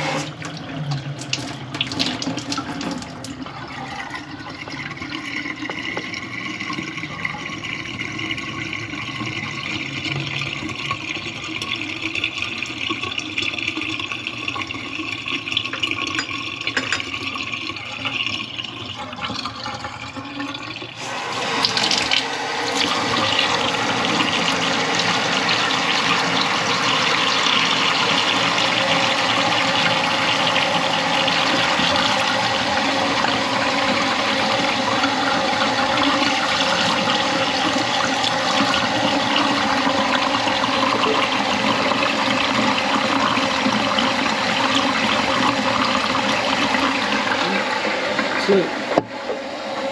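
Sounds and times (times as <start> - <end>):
water running in a sink: 0.0 - 49.9.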